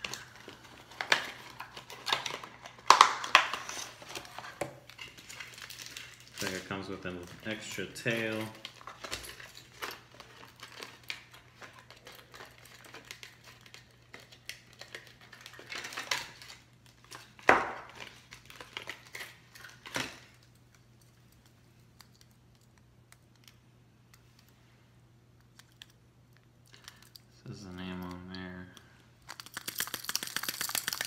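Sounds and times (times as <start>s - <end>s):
packaging crinkling and rustling: 0.0s - 22.8s, 26.7s - 31.0s.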